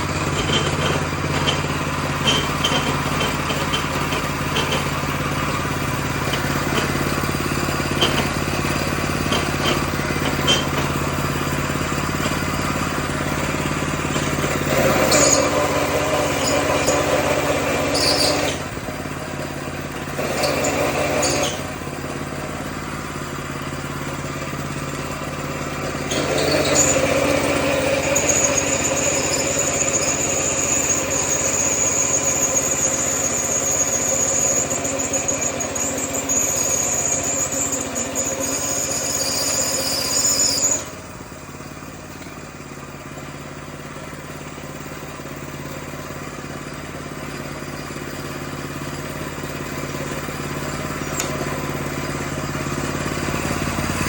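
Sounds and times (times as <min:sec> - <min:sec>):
mower engine running: 0:00.0 - 0:54.0.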